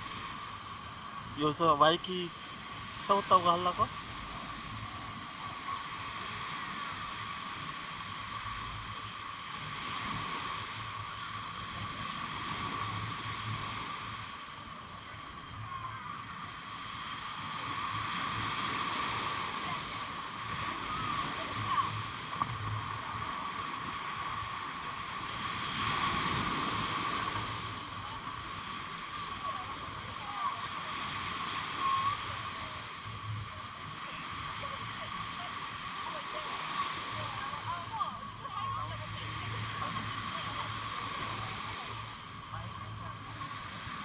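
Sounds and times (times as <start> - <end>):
ocean surf washing onto beach: 0.0 - 44.0
thin steady tone: 0.0 - 44.0.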